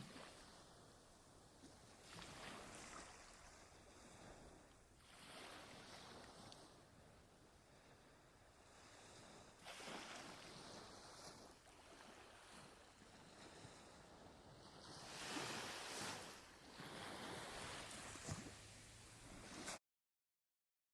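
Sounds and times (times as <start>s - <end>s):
faint sea waves: 0.0s - 19.8s.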